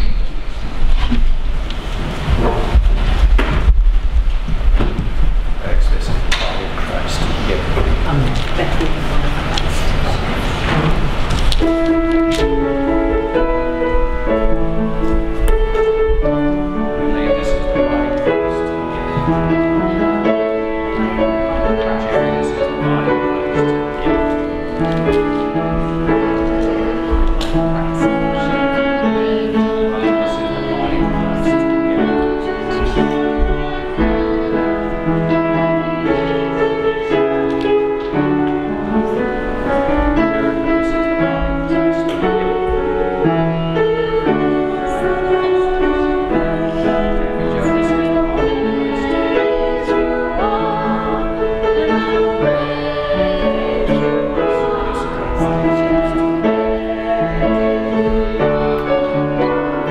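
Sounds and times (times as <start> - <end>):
slow keyboard music: 6.3 - 59.9.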